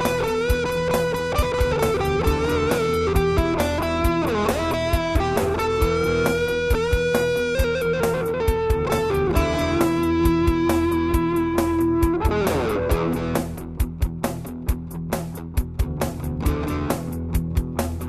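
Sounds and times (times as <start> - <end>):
bass: 0.0 - 18.0
electric guitar lead: 0.0 - 18.0
steady drum beat: 0.0 - 18.0.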